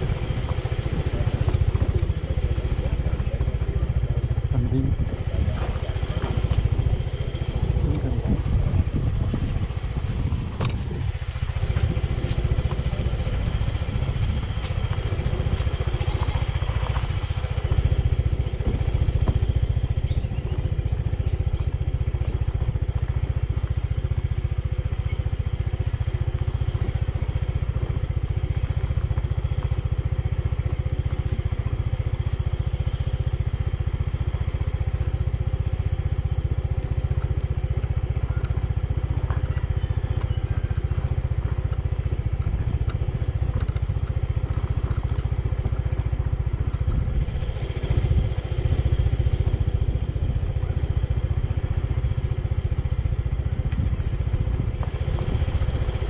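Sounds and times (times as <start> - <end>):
motorbike engine rumble: 0.0 - 56.0.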